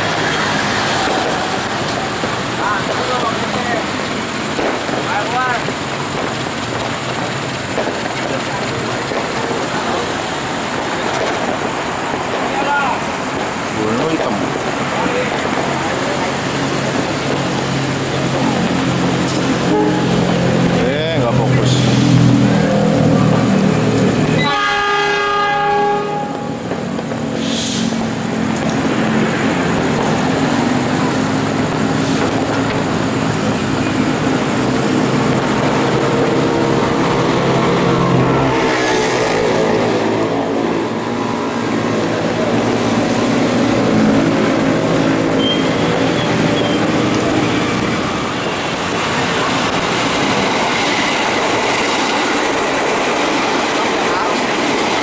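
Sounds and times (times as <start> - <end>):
diesel locomotive engine drone: 0.0 - 55.0
rail noise: 0.0 - 55.0.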